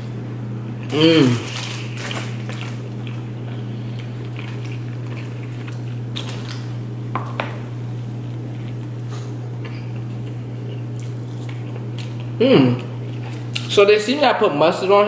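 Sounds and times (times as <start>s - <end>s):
man chewing food: 0.0s - 13.7s
steady low hum: 0.0s - 15.0s.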